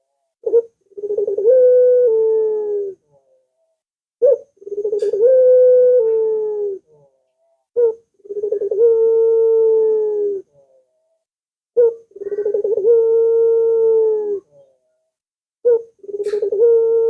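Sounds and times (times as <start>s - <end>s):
dove cooing: 0.0s - 3.4s, 4.2s - 10.8s, 11.8s - 14.8s, 15.6s - 17.0s.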